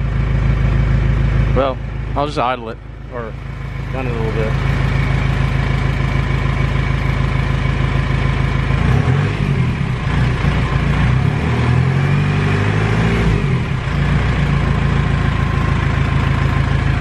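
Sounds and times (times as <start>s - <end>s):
diesel engine idling and revving: 0.0s - 17.0s.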